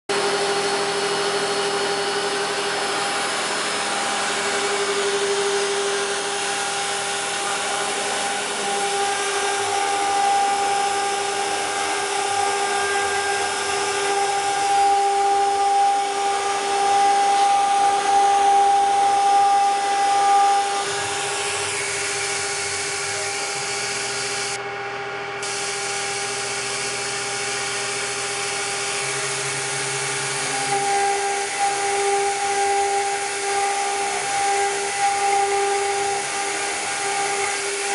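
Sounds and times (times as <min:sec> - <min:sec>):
router spindle whine: 0:00.1 - 0:37.9.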